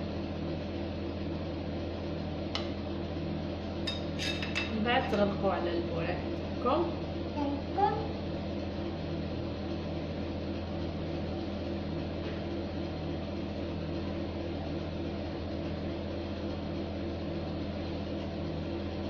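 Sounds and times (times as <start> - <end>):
appliance motor humming: 0.0 - 19.0.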